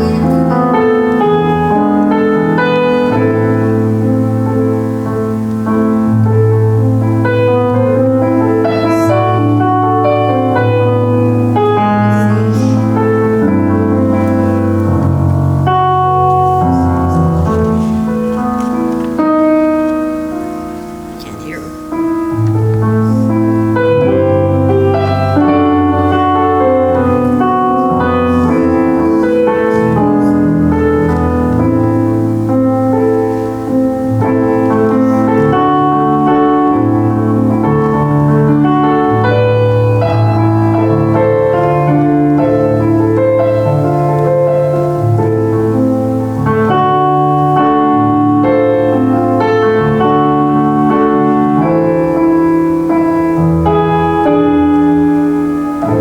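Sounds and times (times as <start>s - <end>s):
solo piano playing a hymn: 0.0s - 56.0s.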